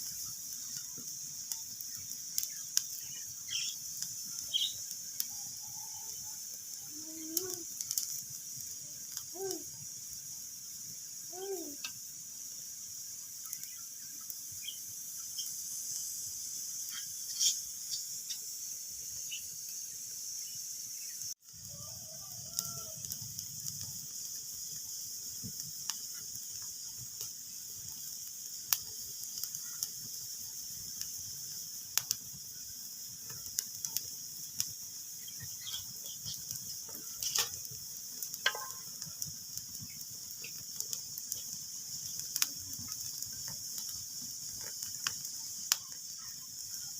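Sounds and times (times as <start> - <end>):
fire pops and snaps: 0.0 - 5.4, 6.8 - 11.0, 11.6 - 18.6, 22.3 - 46.9
wood fire crackling: 0.0 - 46.9.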